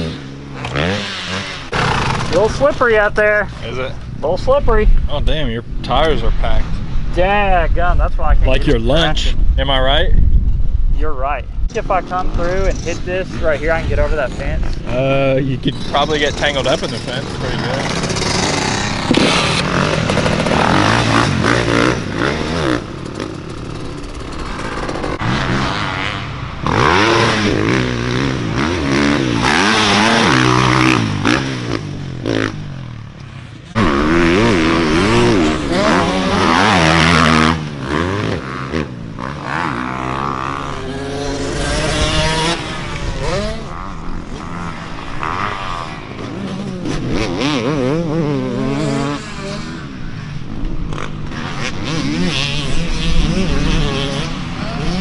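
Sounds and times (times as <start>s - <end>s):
dirt bike engines revving: 0.0s - 10.3s, 11.0s - 55.0s.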